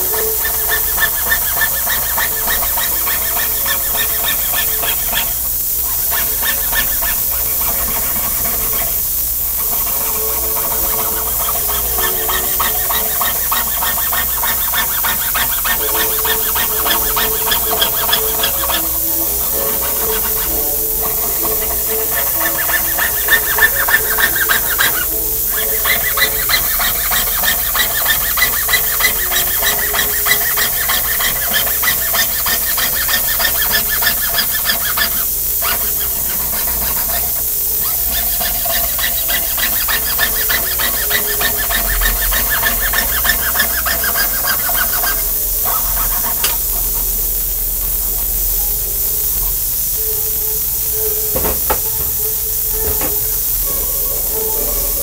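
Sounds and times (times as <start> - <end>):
saw blade rasping on metal: 0.0 - 48.5
steady hiss: 0.0 - 55.0.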